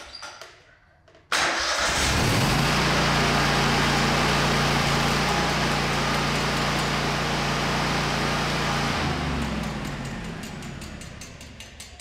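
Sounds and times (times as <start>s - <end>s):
gasoline engine running: 1.8s - 11.9s.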